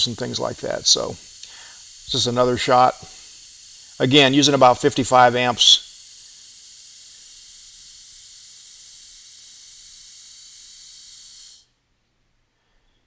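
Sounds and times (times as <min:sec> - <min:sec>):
welding arc hissing: 0:00.0 - 0:11.7.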